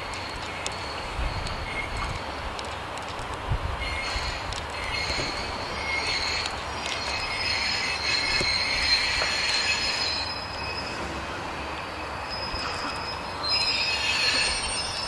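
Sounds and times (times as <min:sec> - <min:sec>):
train wheels squealing: 0:00.0 - 0:02.5, 0:03.8 - 0:15.0.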